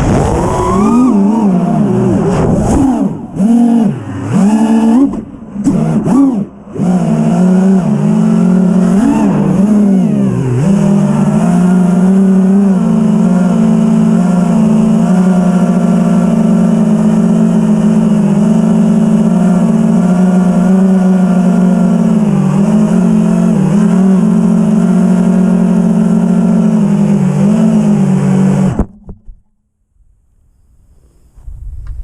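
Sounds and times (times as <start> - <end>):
drone motors whining: 0.0 - 28.9.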